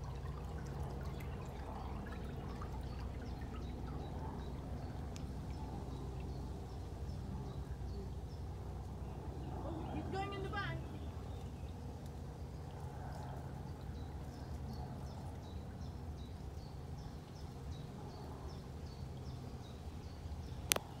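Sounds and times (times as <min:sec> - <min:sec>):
boat engine rumble: 0:00.0 - 0:21.0.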